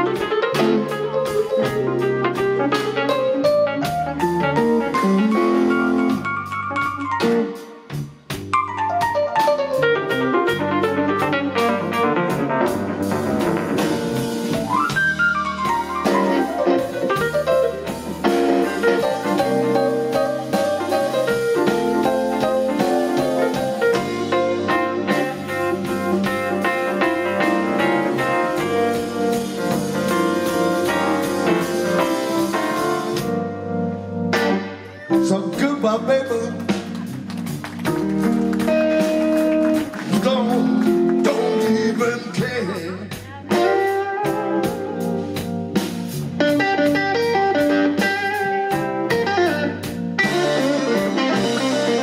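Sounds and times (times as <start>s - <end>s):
blues band playing: 0.0s - 52.0s
lead electric guitar: 0.0s - 52.0s.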